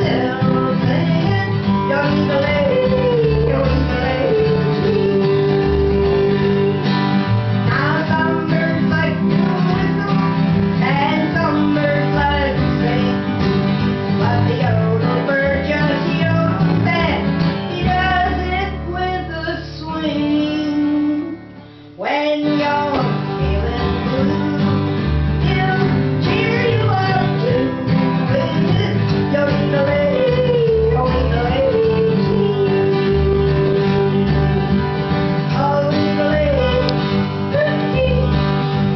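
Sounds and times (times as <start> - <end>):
woman singing: 0.0 - 13.4, 14.1 - 38.9
acoustic guitar strumming: 0.0 - 38.9.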